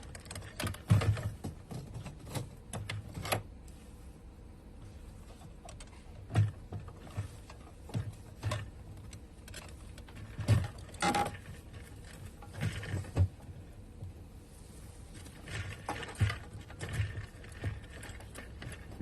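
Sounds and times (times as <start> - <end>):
knocks and clicks of handled parts: 0.0 - 3.5, 5.3 - 14.1, 15.2 - 19.0.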